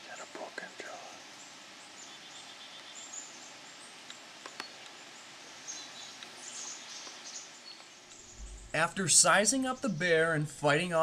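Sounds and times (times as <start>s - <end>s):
steady background hiss: 0.0s - 11.0s
bird chirps: 0.1s - 11.0s.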